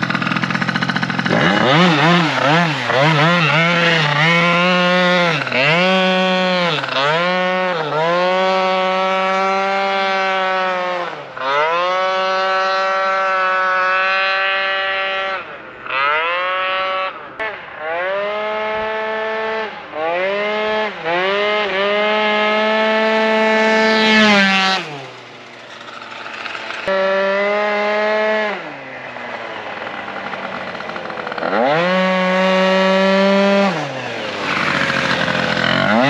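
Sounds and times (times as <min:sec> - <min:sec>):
two-stroke scooter engine revving: 0:00.0 - 0:36.0.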